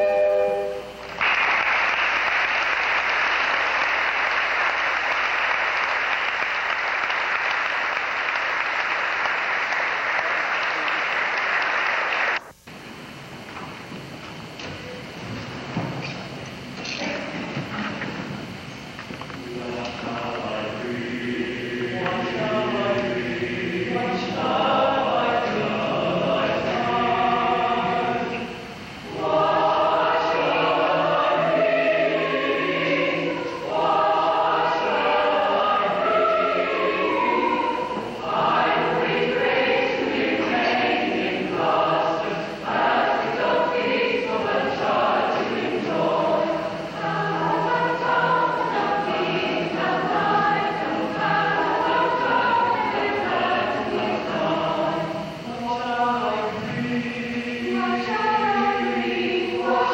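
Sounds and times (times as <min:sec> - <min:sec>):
mixed choir singing: 0:00.0 - 0:12.4, 0:19.4 - 0:59.9.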